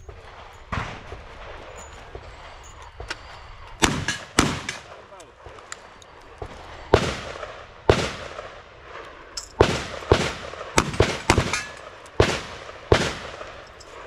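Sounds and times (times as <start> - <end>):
gunshots with echo: 0.0 - 3.1, 3.7 - 5.6, 6.4 - 14.0.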